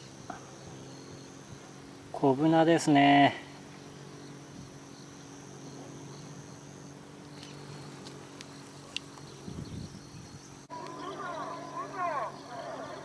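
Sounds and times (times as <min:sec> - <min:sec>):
high thin insect trill: 0:00.0 - 0:13.0
insects singing: 0:00.0 - 0:13.0.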